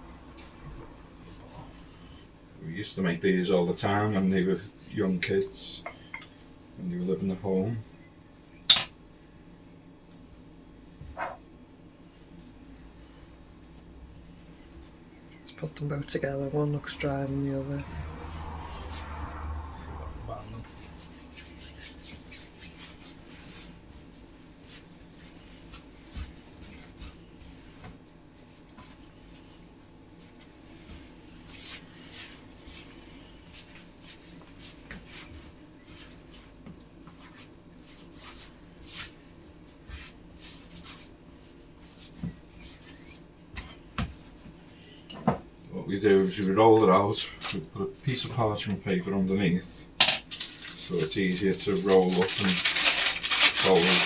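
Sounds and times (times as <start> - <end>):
hands kneading dough: 0.0 - 5.8, 10.2 - 54.0.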